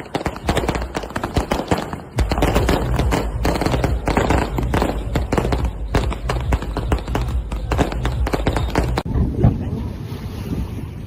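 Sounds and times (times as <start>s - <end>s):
fireworks crackling and banging: 0.0s - 9.1s.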